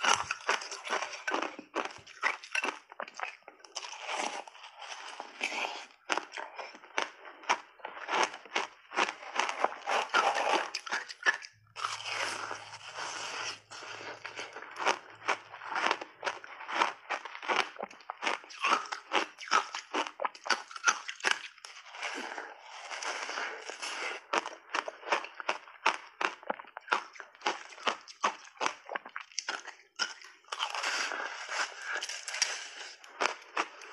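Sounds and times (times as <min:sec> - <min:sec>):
crunchy ice chewing: 0:00.0 - 0:33.9.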